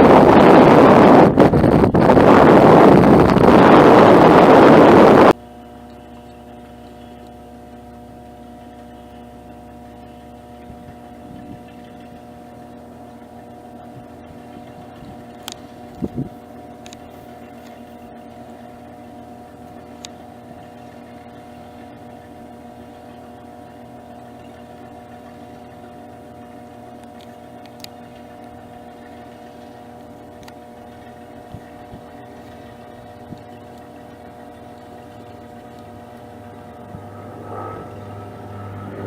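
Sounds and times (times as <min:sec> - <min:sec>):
light aircraft engine droning: 0:00.0 - 0:39.0.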